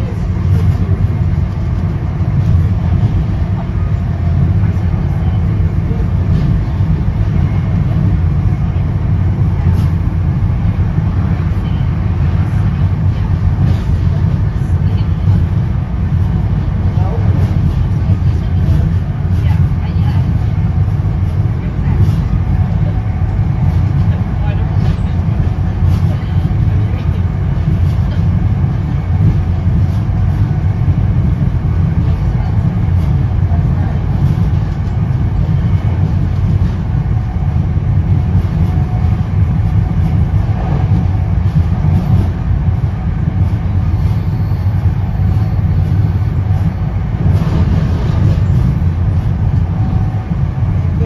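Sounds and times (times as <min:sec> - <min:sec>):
train coach rumbling inside: 0:00.0 - 0:51.0.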